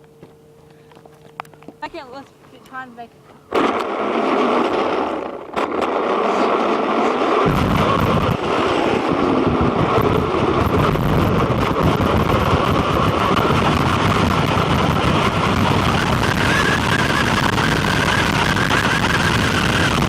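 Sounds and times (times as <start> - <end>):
electric motor whine: 3.2 - 20.0.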